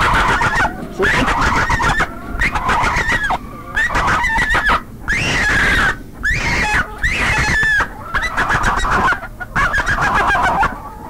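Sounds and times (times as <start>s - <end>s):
chickens squawking: 0.0s - 11.0s.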